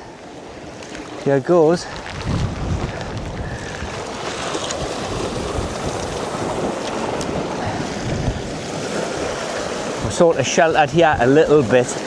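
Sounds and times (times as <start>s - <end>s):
sea surf on rocks: 0.0s - 12.0s
wind buffeting microphone: 0.0s - 12.0s.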